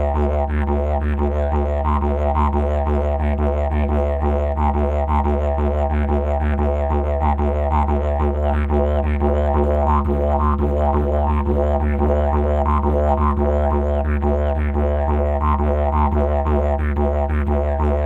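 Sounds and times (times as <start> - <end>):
didgeridoo low drone: 0.0 - 18.0.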